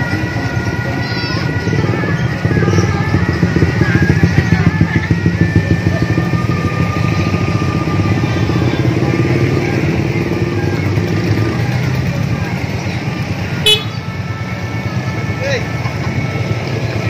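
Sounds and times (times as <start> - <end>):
scooters and motorcycles passing: 0.0 - 17.0.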